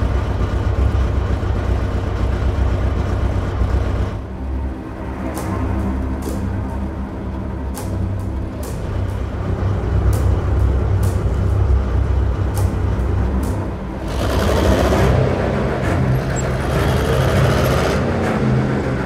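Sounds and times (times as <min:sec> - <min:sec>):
rushing noise: 0:00.0 - 0:19.0
tank engine idling: 0:00.0 - 0:19.0
background music: 0:03.0 - 0:19.0.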